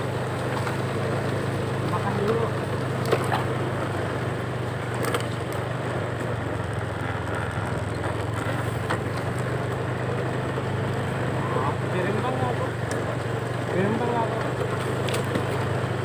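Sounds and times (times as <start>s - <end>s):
small engine droning: 0.0s - 16.0s.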